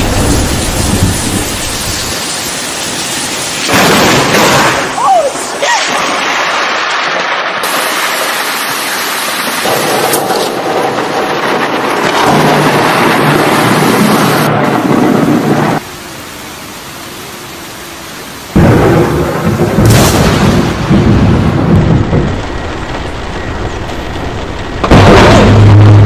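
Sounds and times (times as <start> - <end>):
rumbling thunder: 0.0 - 3.0, 3.6 - 5.0, 5.9 - 15.8, 18.5 - 26.0
heavy rain: 0.0 - 26.0
wind: 0.0 - 26.0.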